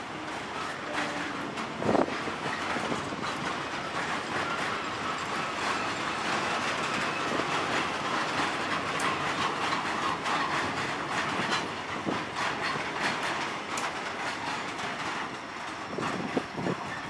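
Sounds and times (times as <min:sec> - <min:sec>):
freight train rumbling past: 0:00.0 - 0:17.0
train wheels clicking over rail joints: 0:00.0 - 0:17.0.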